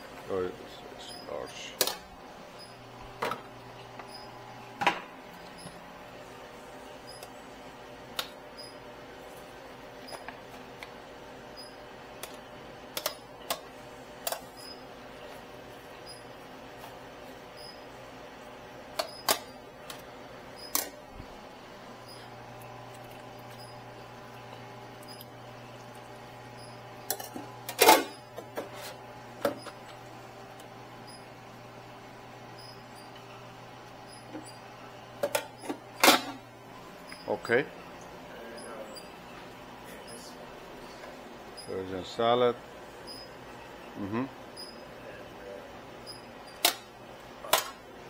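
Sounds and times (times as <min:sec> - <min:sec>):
steady background hum: 0:00.0 - 0:48.0.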